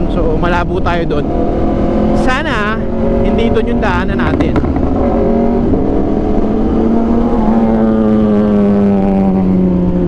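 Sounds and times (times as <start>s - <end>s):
motorcycle engine cruising: 0.0s - 10.0s.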